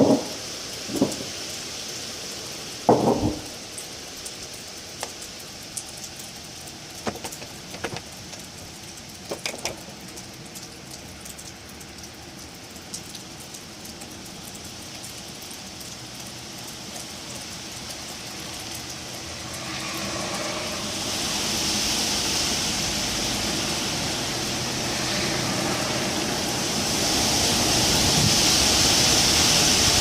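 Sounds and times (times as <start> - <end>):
wind rustling leaves: 0.0 - 30.0.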